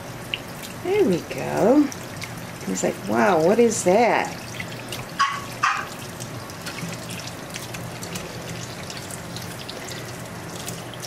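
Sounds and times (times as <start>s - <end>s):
faucet water running into sink: 0.0s - 11.0s
water splashing over puppy: 0.5s - 11.0s.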